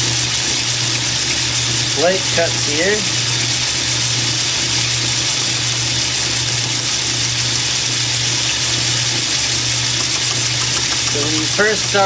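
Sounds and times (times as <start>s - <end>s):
metal lathe running: 0.6s - 12.0s.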